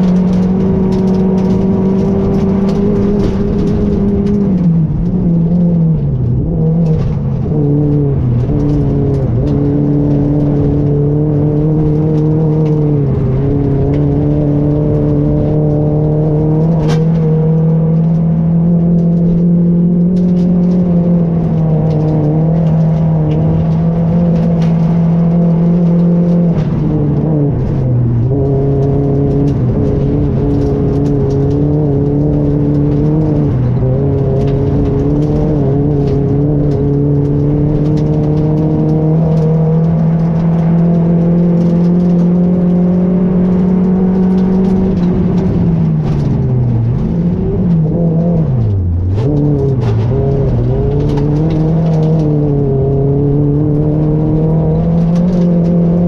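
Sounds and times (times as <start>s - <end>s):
rally car engine running hard: 0.0s - 56.0s.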